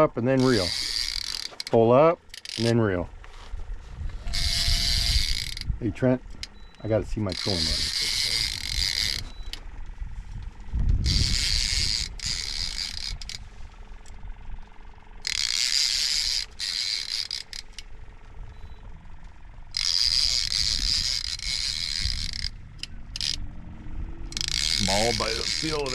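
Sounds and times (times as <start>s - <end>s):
fishing reel ratchet whirring: 0.0s - 2.8s, 4.2s - 9.6s, 11.0s - 18.1s, 19.7s - 23.5s, 24.3s - 25.9s.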